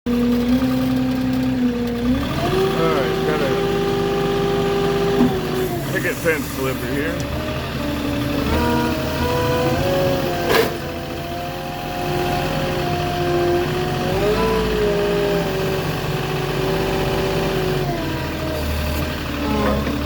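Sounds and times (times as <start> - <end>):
truck engine running: 0.1 - 20.0.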